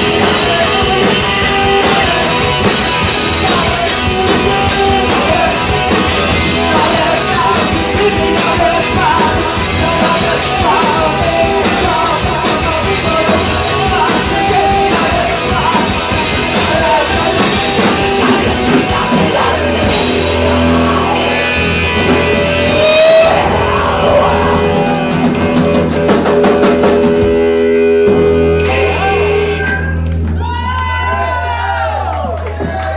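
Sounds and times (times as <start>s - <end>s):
shouted lead vocal: 0.0s - 26.5s, 28.1s - 29.8s
drum kit: 0.0s - 31.1s
bass guitar: 0.0s - 32.9s
electric guitar: 0.0s - 32.9s.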